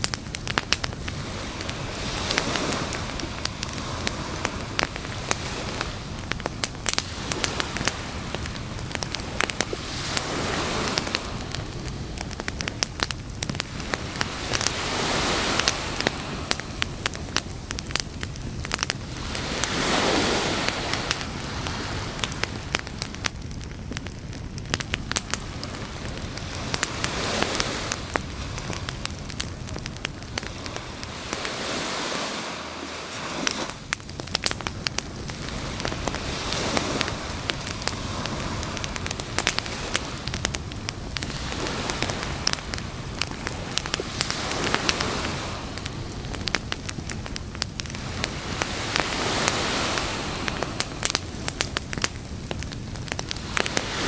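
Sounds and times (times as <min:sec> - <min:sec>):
campfire crackling and popping: 0:00.0 - 0:54.0
waves washing on a beach: 0:00.0 - 0:54.0.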